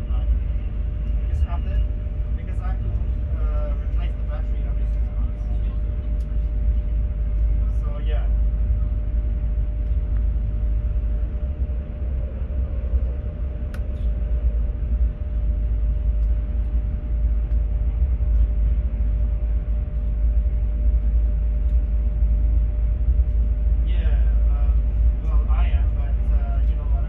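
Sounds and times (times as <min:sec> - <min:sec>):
constant hum: 0:00.0 - 0:27.0
train running rumble: 0:00.0 - 0:27.0.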